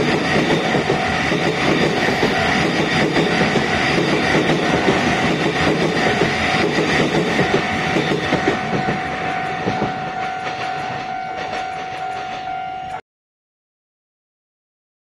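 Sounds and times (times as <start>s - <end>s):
steady tone: 0.0s - 13.0s
train wheels clacking and rumbling: 0.0s - 13.0s.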